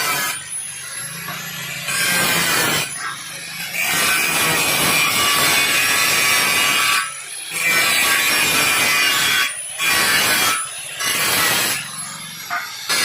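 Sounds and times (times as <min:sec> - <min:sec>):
angle grinder cutting steel: 0:00.0 - 0:13.0.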